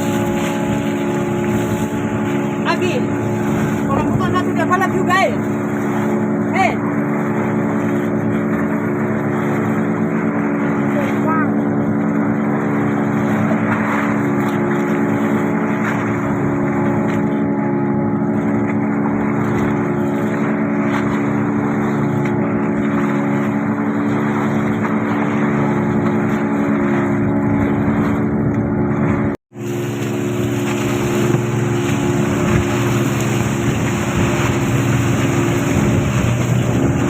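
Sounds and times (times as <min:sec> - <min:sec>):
boat engine running: 0:00.0 - 0:37.0
water rushing: 0:00.0 - 0:37.0
wind: 0:00.0 - 0:37.0.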